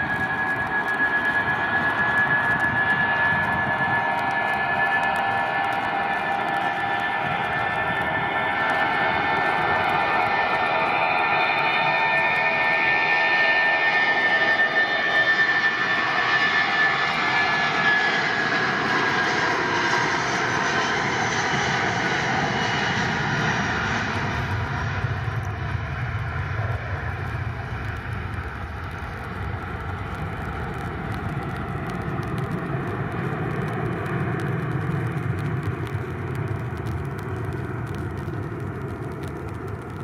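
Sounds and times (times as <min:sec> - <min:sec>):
deep jet rumble: 0:00.0 - 0:40.0
high jet whine: 0:00.0 - 0:40.0
jet engines at take-off thrust: 0:00.0 - 0:40.0.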